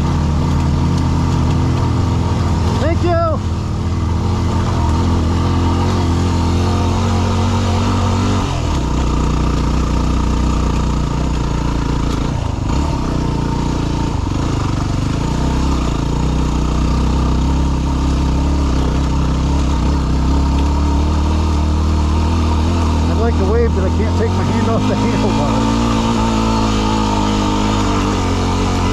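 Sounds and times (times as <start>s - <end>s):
motorcycle engine climbing: 0.0s - 28.9s.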